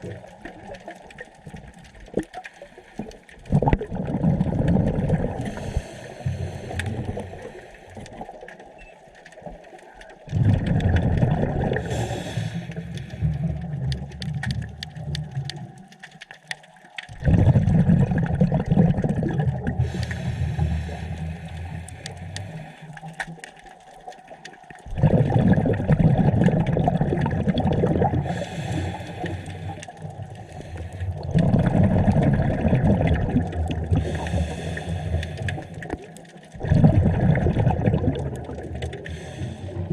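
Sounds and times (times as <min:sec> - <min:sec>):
exhaled bubbles rumbling underwater: 0:00.0 - 0:39.9.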